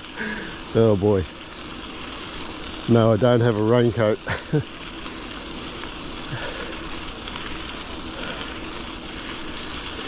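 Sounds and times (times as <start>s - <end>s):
bicycle tyres rolling on trail: 0.0s - 10.0s.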